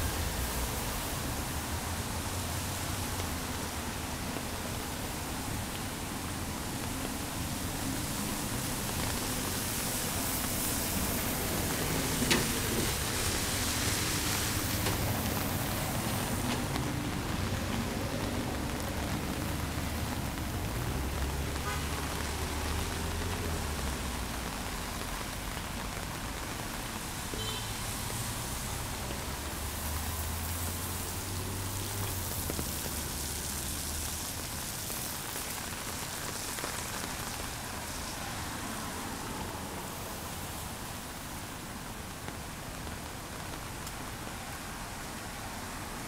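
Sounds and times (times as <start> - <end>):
passing traffic rumble: 0.0 - 46.0
rain falling on street: 0.0 - 46.0.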